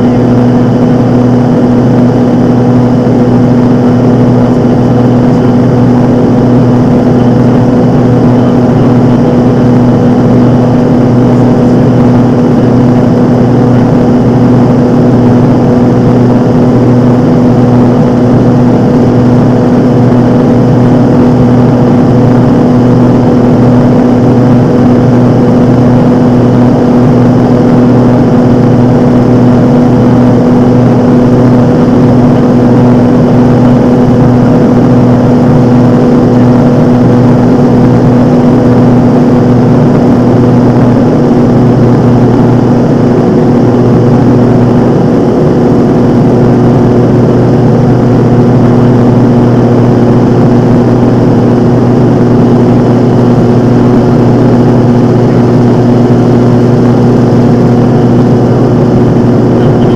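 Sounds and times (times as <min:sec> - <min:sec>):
aircraft engine droning in cockpit: 0:00.0 - 0:59.9.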